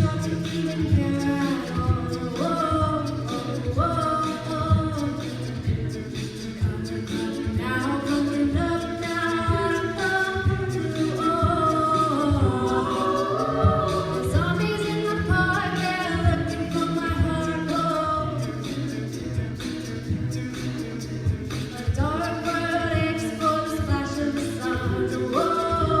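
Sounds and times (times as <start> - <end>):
a cappella group singing in harmony: 0.0 - 26.0
low steady beat: 0.0 - 26.0.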